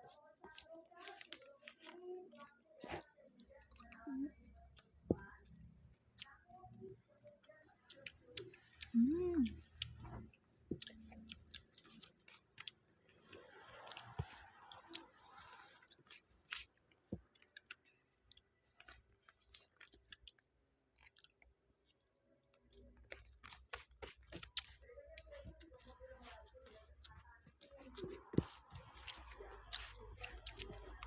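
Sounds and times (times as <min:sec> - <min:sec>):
chewing food: 0:00.0 - 0:31.0.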